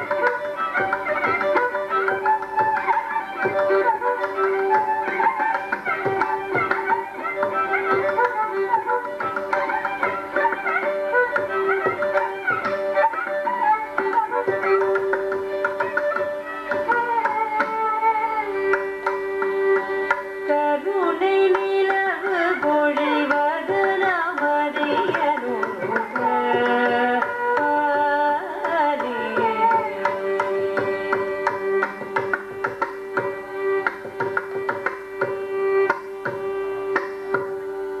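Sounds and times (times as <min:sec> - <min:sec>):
violin melody: 0:00.0 - 0:38.0.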